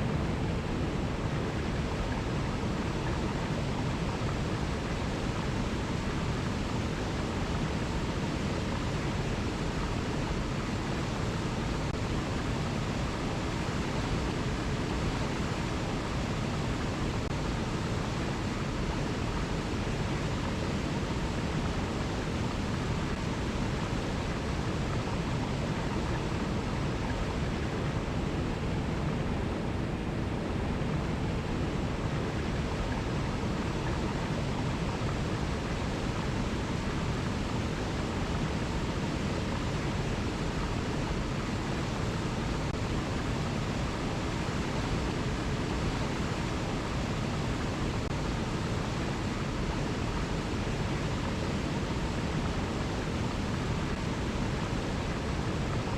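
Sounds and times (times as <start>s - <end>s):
river rushing over cascades: 0.0s - 55.9s.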